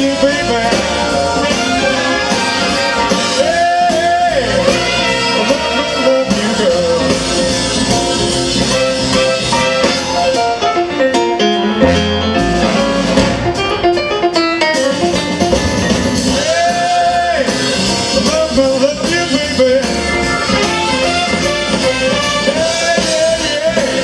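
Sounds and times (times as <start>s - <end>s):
big band music: 0.0s - 24.0s
grand piano playing: 0.0s - 24.0s.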